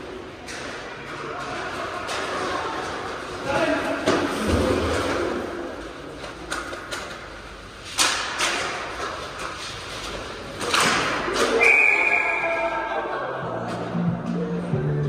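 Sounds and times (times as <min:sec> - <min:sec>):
hockey sticks and puck clacking: 0:00.0 - 0:12.4.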